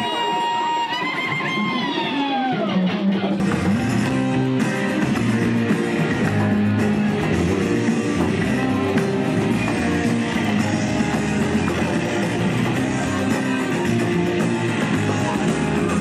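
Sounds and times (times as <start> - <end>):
electric guitar playing: 0.0 - 16.0
live band music: 0.0 - 16.0.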